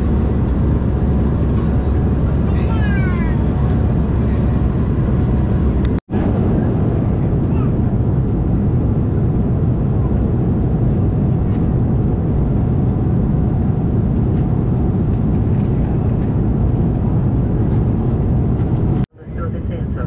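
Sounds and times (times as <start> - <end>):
airliner cabin noise: 0.0 - 20.0.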